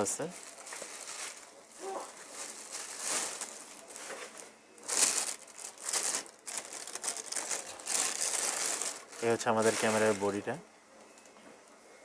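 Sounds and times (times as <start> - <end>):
bubble wrap and plastic bag crinkling: 0.0 - 10.6.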